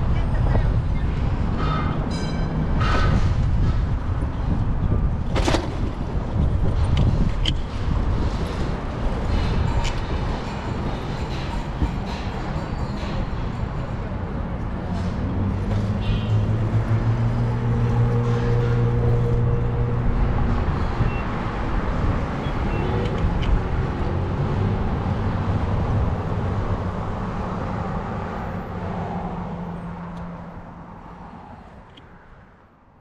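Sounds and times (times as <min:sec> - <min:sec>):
heavy vehicle engine hum: 0:00.0 - 0:32.1
road traffic: 0:00.0 - 0:33.0.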